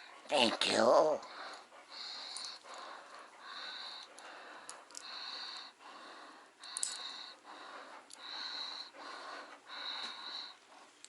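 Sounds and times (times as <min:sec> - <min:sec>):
close breathing: 0:01.2 - 0:11.0.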